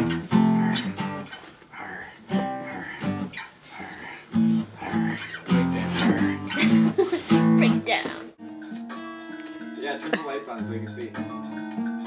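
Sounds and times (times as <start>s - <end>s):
acoustic guitar strummed: 0.0s - 1.5s, 2.3s - 3.5s, 4.3s - 12.0s.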